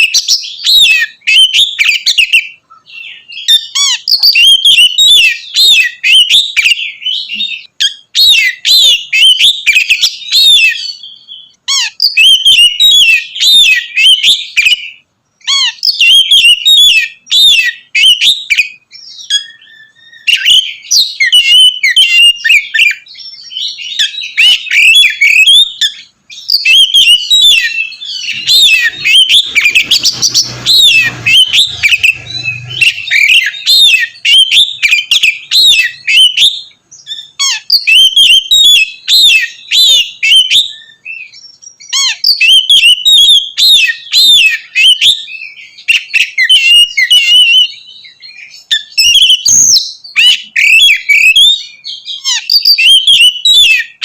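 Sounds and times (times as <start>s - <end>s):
songbird whistling and chirping: 0.0s - 54.0s.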